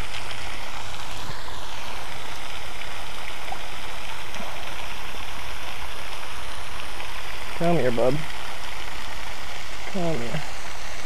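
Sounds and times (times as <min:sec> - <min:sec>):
spray fountain splashing: 0:00.0 - 0:11.0.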